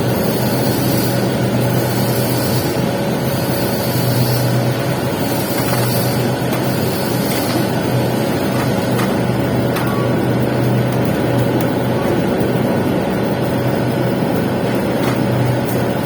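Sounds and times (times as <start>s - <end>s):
low electrical hum: 0.0s - 16.0s
welding arc crackling hiss: 0.0s - 16.0s.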